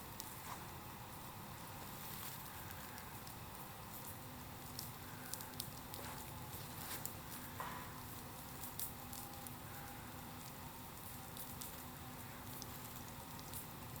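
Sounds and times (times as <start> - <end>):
bonfire crackling: 0.0 - 14.0
fire popping: 0.1 - 14.0.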